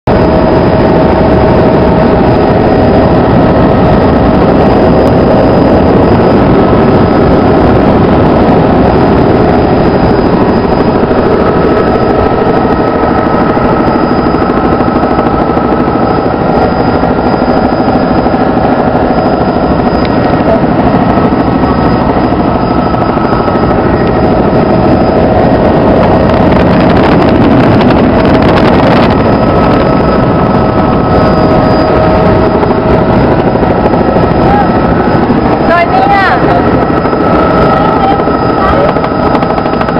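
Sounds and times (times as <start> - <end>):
helicopter engine and rotors: 0.0 - 39.9
faint steady whine: 0.2 - 39.9.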